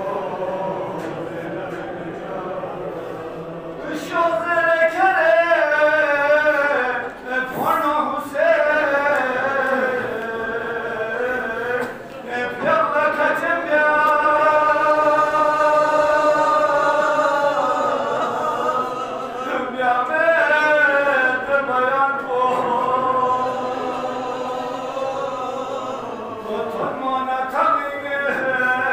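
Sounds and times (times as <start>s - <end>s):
man chanting into microphone: 0.0s - 28.9s.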